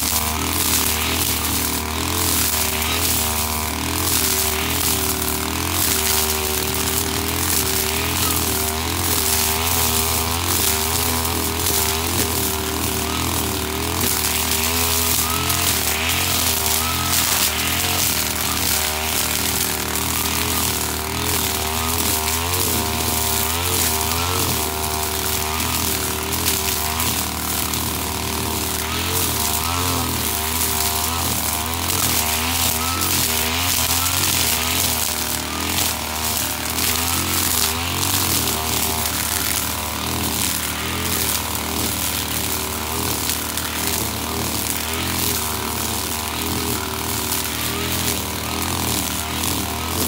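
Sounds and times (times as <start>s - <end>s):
brushcutter engine at high revs: 0.0s - 50.0s
hiss of cutting grass: 0.0s - 50.0s.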